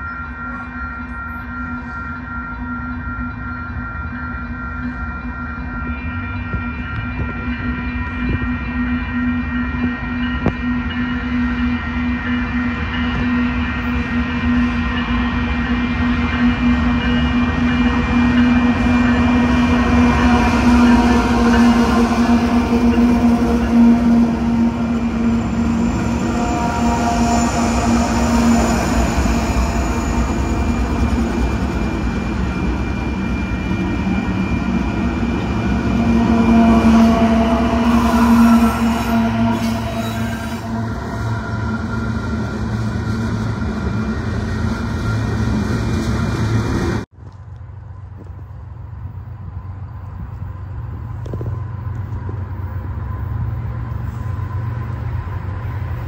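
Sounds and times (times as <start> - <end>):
diesel locomotives passing: 0.0 - 56.0
distant train rumble: 0.0 - 56.0
steel wheels on rails: 0.0 - 56.0.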